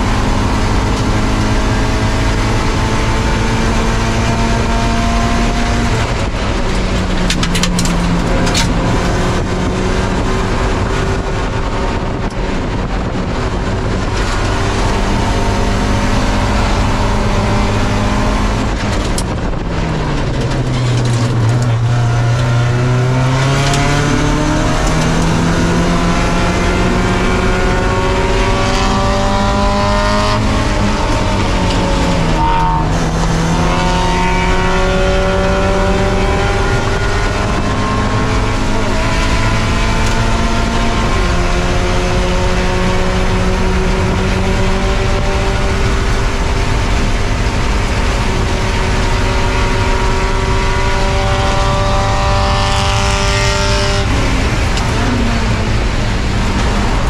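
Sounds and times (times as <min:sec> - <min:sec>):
car engine revving high: 0:00.0 - 0:57.0
gear changes: 0:00.0 - 0:57.0.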